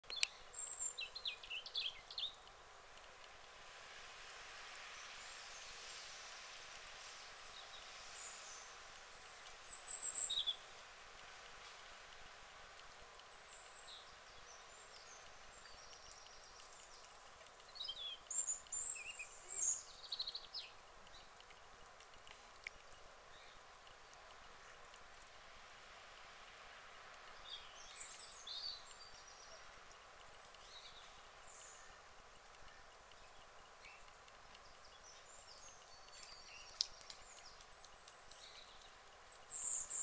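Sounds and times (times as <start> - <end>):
songbirds chirping and trilling: 0.0 - 40.0
steady outdoor hiss: 0.0 - 40.0.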